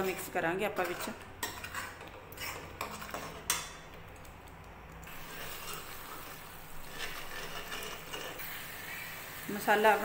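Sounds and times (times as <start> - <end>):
ladle stirring and scraping pan: 0.0 - 3.9, 5.1 - 9.3
masala frying: 0.0 - 10.0.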